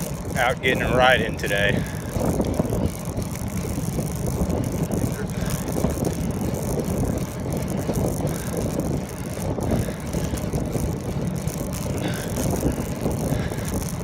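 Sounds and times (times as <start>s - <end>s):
bicycle tyre road noise: 0.0s - 14.0s
wind buffeting microphone: 0.0s - 14.0s.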